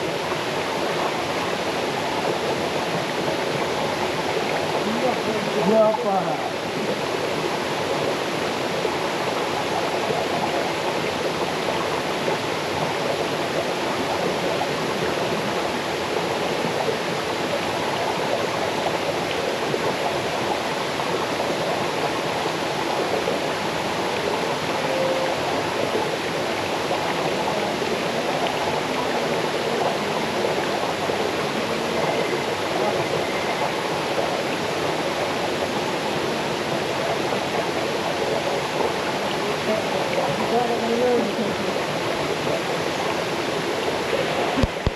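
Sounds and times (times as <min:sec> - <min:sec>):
waterfall rushing over rocks: 0:00.0 - 0:44.9.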